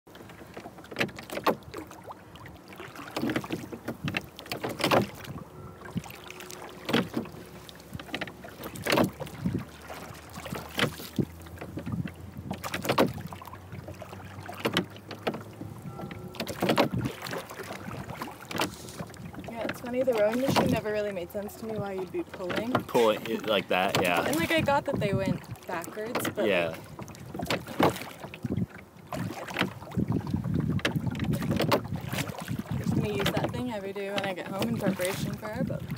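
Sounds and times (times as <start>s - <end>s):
oars stroking through water: 0.1s - 35.9s.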